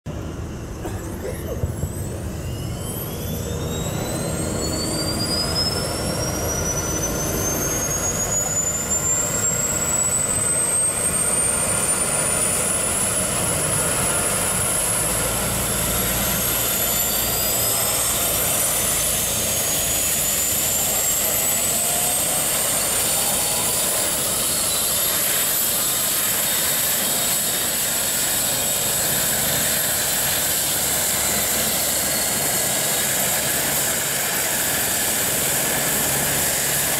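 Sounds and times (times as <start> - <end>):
helicopter rotor rush: 0.1 - 36.9
turbine whine climbing: 0.1 - 36.9.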